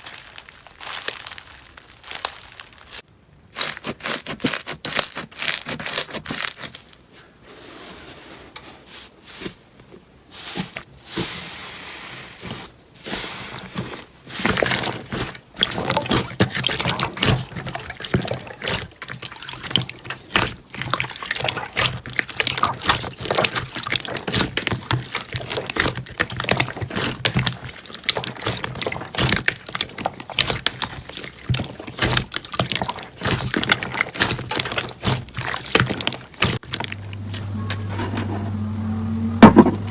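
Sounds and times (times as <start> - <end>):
slime squelching by hand: 0.0 - 7.0, 10.4 - 37.5.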